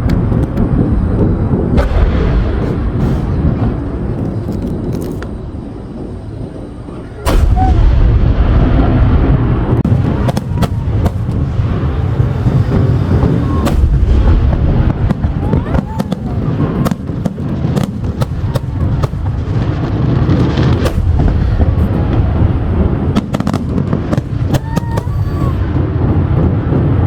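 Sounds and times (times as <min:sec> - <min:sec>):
fireworks booming: 0:00.0 - 0:27.0
fireworks crackling: 0:00.0 - 0:27.0.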